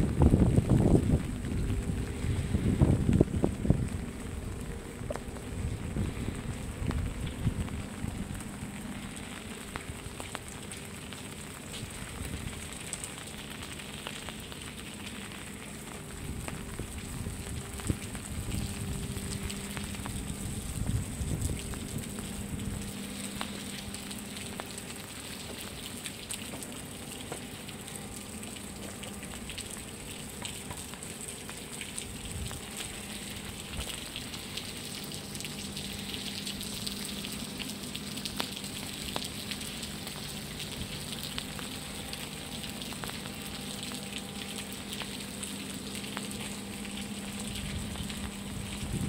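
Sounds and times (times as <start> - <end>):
low steady hum: 0.0 - 49.0
rain on steel deck: 0.0 - 49.0.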